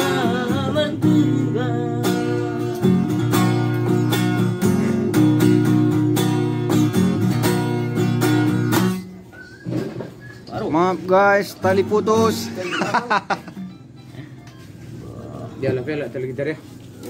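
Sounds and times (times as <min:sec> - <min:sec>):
acoustic guitar strumming: 0:00.0 - 0:16.2.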